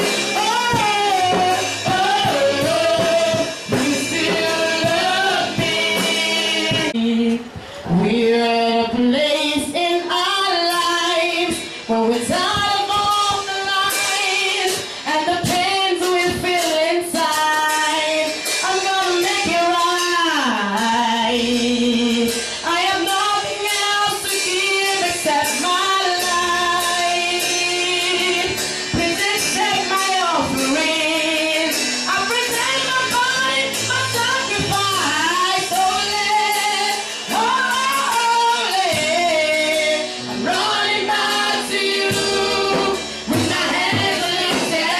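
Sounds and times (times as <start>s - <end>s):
instrumental accompaniment: 0.0s - 8.7s, 9.3s - 44.9s
woman singing gospel song: 0.0s - 44.9s.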